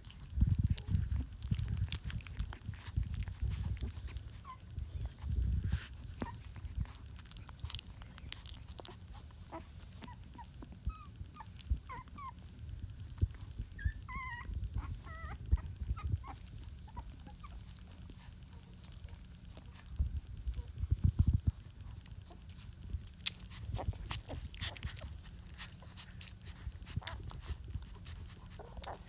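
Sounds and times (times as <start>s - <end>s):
puppies squeaking and whimpering: 0.7s - 19.3s, 22.3s - 29.0s.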